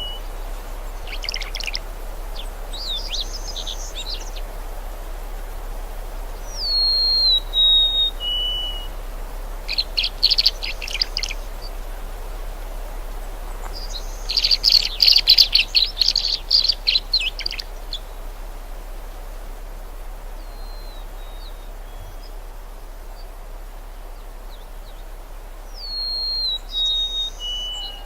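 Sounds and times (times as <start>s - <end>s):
songbirds whistling and trilling: 0.0s - 4.6s, 6.3s - 12.0s, 13.0s - 18.4s, 20.4s - 28.0s.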